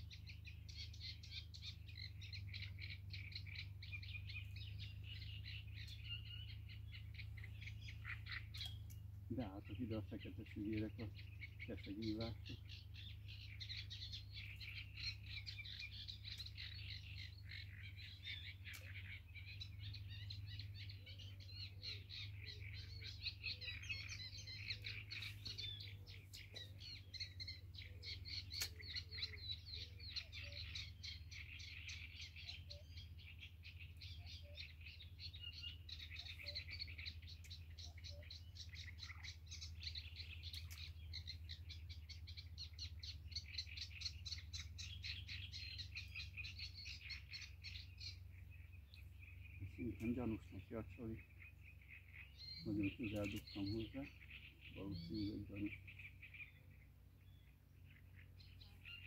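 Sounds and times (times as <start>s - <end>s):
birds chirping and calling: 0.0s - 59.0s.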